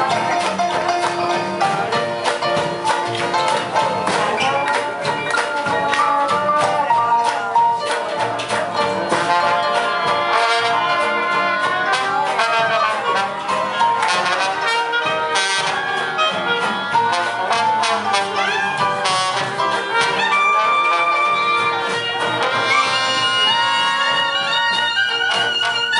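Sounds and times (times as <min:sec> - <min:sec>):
jazz band playing: 0:00.0 - 0:25.9.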